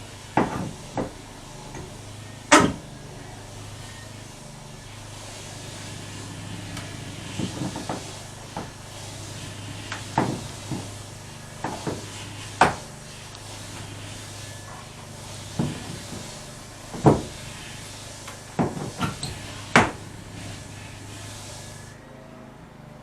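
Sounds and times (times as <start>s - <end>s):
steady hum and hiss: 0.0s - 23.0s.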